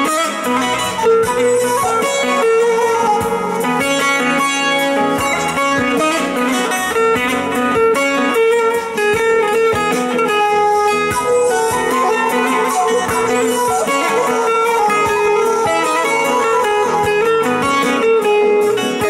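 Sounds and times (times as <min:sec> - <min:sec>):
electronic keyboard accompaniment: 0:00.0 - 0:19.0
plucked long-necked lute melody: 0:00.0 - 0:19.0.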